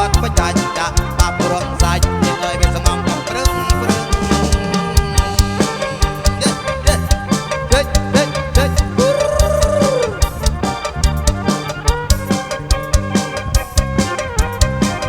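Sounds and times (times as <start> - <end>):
fast drum-kit beat: 0.0 - 15.0
live band music: 0.0 - 15.0.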